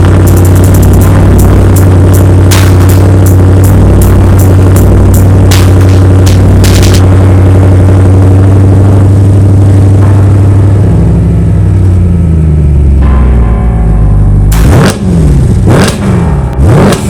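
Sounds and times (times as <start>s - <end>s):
car exhaust idling drone: 0.0s - 17.0s.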